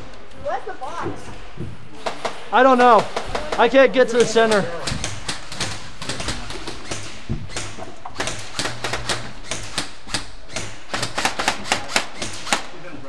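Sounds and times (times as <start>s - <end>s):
airsoft guns firing: 2.0s - 12.8s.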